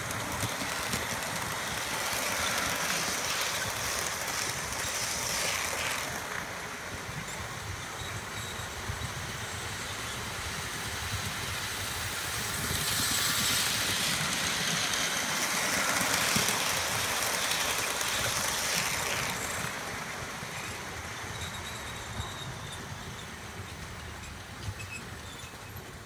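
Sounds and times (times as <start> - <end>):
model train rumbling on track: 0.0 - 26.0.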